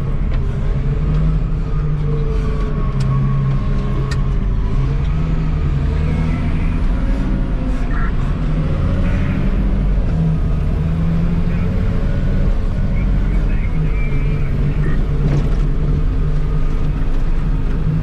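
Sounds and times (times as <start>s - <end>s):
diesel engine low drone: 0.0s - 18.0s
engine whine: 0.0s - 18.0s.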